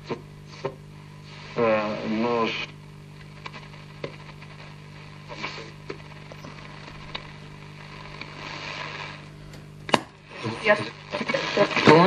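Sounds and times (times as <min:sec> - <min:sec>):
low interference buzz: 0:00.0 - 0:12.0
radio crackles: 0:00.0 - 0:12.0
radio static hiss: 0:00.0 - 0:12.0.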